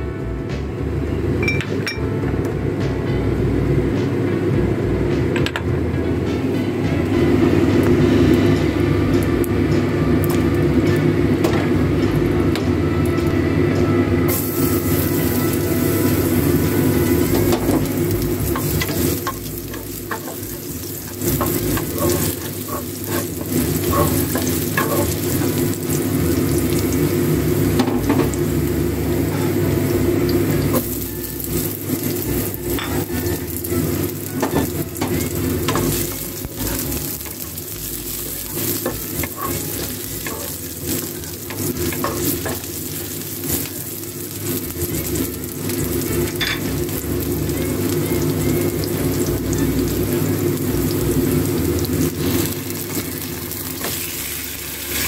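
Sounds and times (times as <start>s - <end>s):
low hum: 0.0s - 55.0s
onion sizzling in a frying pan: 6.8s - 55.0s.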